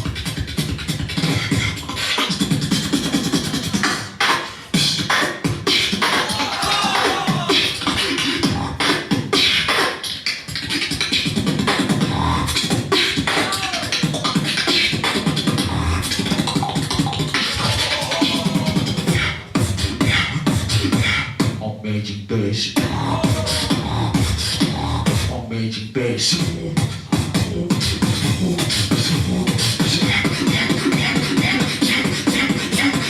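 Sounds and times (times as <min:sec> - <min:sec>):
beatboxing: 0:00.0 - 0:33.0.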